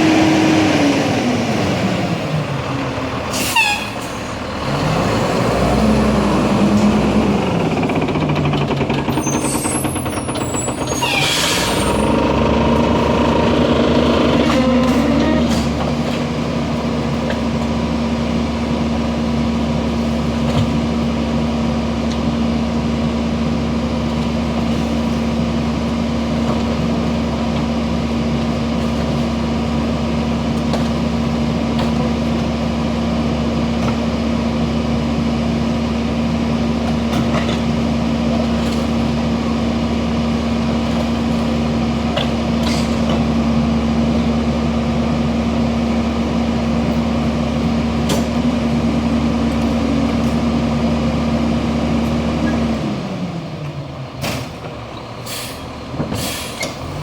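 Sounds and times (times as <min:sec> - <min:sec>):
garbage truck engine droning: 0:00.0 - 0:57.0.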